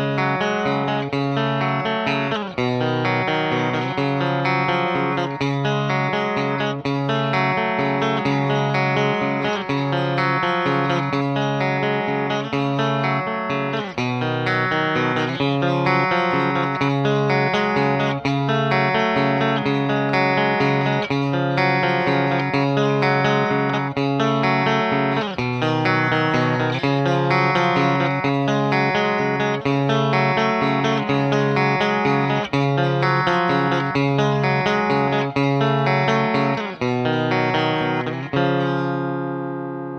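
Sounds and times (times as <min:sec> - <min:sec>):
electric guitar playing chords: 0:00.0 - 0:39.9.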